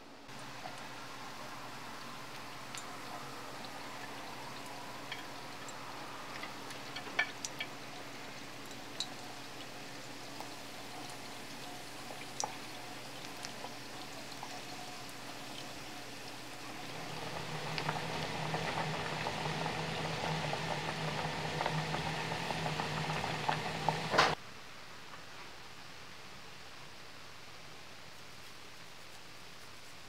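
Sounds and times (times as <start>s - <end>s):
oil sizzling and bubbling: 0.2s - 24.4s.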